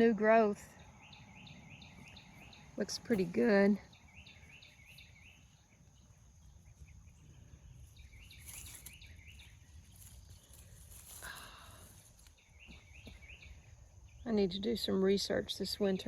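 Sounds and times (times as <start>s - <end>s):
bird chirping: 0.4s - 16.0s.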